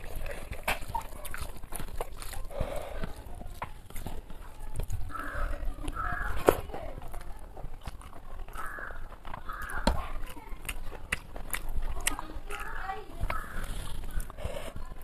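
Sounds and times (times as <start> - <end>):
wet lip-smacks and mouth clicks: 0.0 - 6.5, 7.2 - 14.5
person chewing: 0.0 - 15.0.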